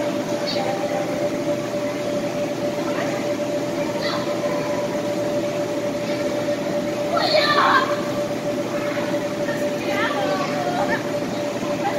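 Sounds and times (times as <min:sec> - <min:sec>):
air blowers droning: 0:00.0 - 0:11.9.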